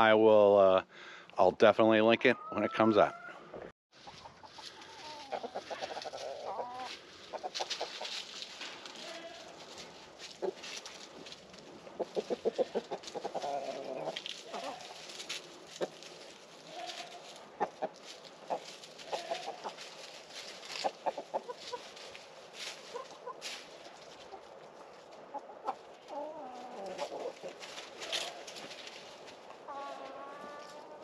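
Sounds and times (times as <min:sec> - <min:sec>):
chickens clucking: 0:02.0 - 0:31.0.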